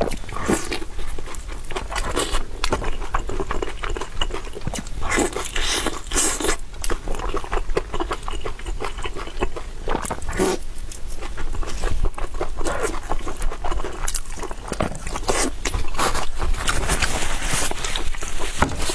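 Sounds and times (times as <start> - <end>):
chewing with wet mouth clicks: 0.0 - 16.4.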